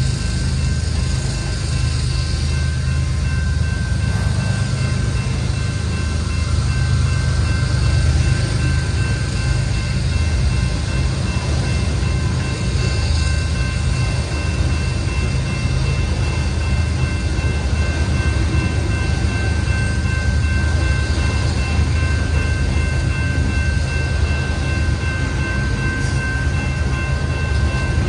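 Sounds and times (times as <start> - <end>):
high-pitched ringing tones: 0.0 - 28.0
train wheels rumbling on rail: 0.0 - 28.0.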